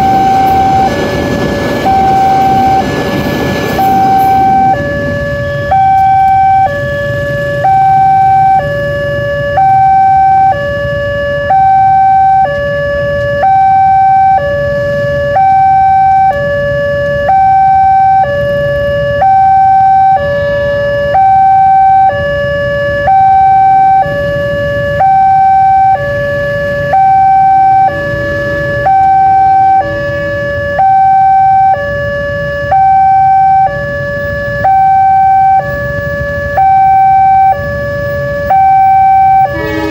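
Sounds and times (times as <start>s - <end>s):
two-tone level crossing siren: 0.0s - 39.9s.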